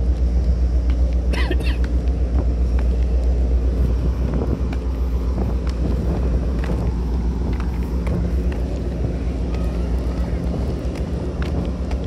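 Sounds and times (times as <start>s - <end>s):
light ticks: 0.0s - 3.5s, 4.6s - 12.0s
faint hum: 0.0s - 12.0s
ship machinery droning: 0.0s - 12.0s.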